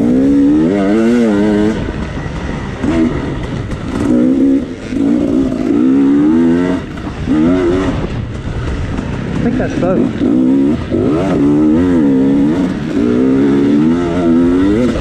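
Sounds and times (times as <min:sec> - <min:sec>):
dirt bike engine revving: 0:00.0 - 0:15.0
rough riding noise: 0:00.0 - 0:15.0.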